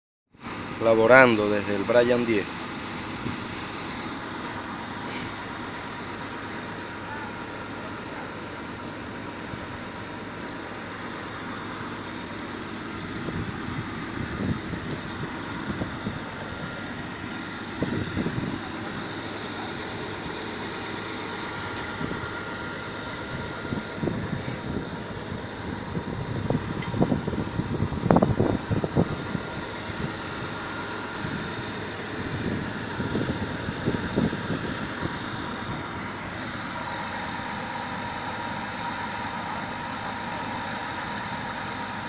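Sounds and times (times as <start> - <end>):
drilling rig machinery running: 0.4 - 42.0
faint mechanical whine: 0.4 - 42.0.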